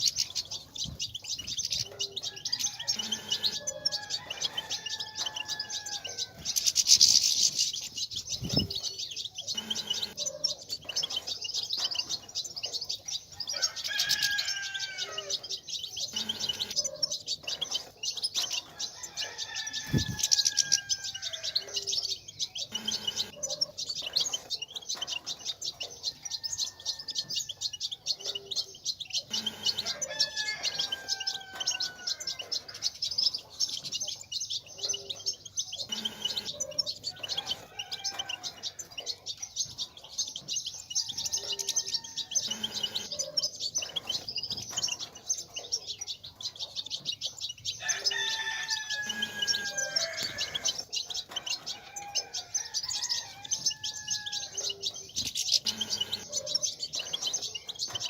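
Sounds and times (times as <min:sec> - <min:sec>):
goldfinches twittering: 0:00.0 - 0:58.0.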